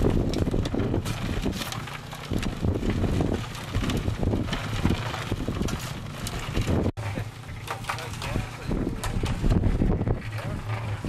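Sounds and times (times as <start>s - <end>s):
low rumble: 0.0s - 11.0s
wind buffeting microphone: 0.0s - 11.0s.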